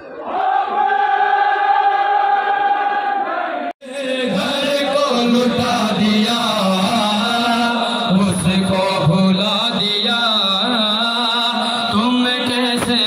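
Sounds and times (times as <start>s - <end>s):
men chanting: 0.3s - 13.0s.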